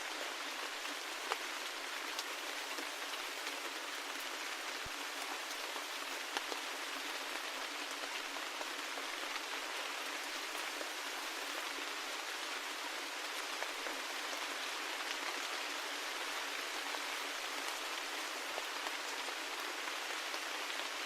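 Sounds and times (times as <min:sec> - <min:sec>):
rain drops pattering: 0:00.0 - 0:21.0.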